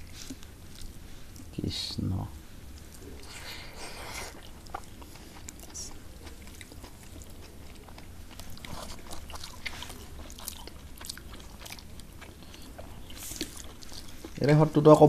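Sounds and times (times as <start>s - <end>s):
wet chewing: 0.0s - 1.5s, 2.5s - 14.9s.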